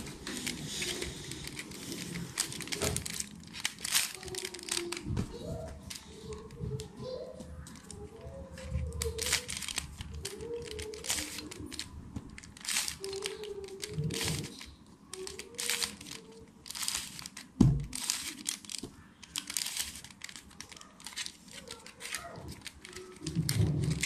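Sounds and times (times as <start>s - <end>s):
puzzle cube clicking: 0.2s - 6.9s, 7.7s - 24.0s.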